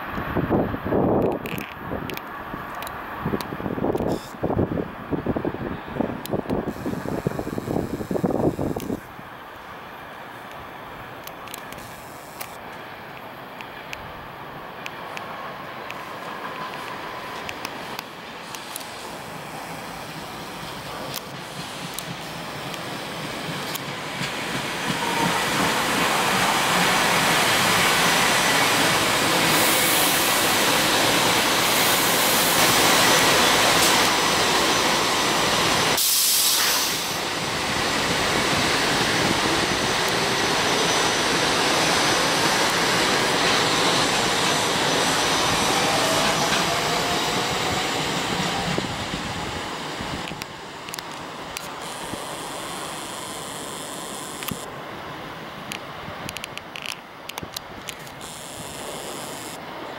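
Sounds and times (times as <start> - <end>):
train passing at speed: 0.0 - 59.9.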